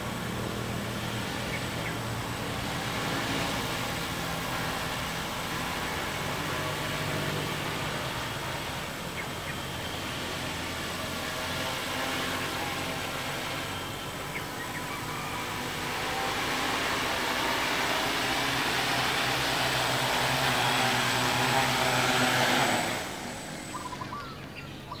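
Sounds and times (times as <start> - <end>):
drone propellers whirring: 0.0 - 25.0.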